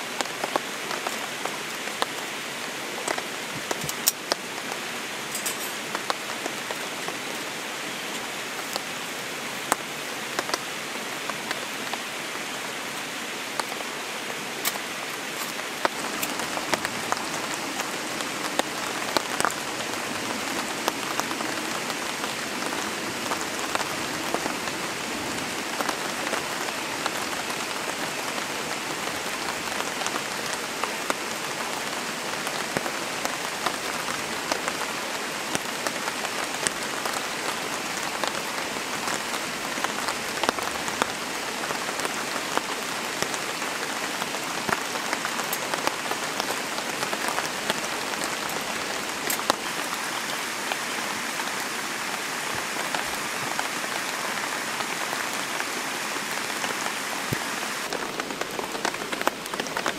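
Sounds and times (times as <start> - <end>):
steady rain hiss: 0.0 - 59.9
raindrops tapping: 3.0 - 7.4, 14.6 - 55.4, 56.1 - 59.9.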